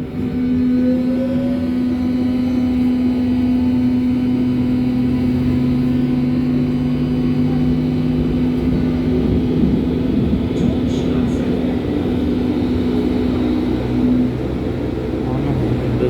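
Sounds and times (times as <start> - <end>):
subway train rumbling in tunnel: 0.0 - 16.0.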